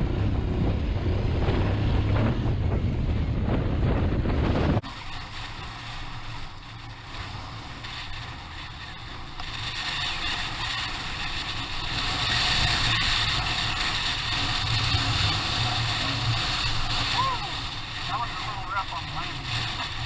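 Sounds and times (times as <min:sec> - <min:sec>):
motorcycle engine hum: 0:00.0 - 0:20.0
wind rushing on microphone: 0:00.0 - 0:20.0.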